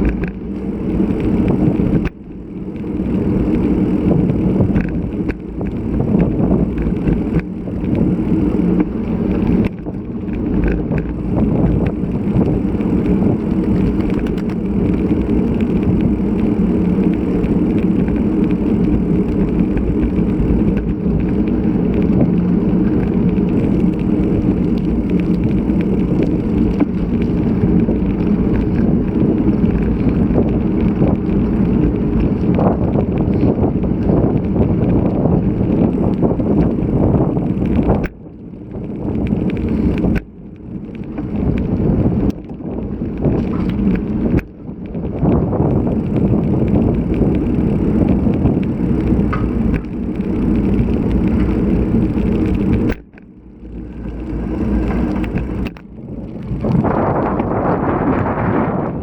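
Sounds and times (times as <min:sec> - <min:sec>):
low rumble from bicycle ride: 0:00.0 - 0:59.0
wind rushing over microphone: 0:00.0 - 0:59.0.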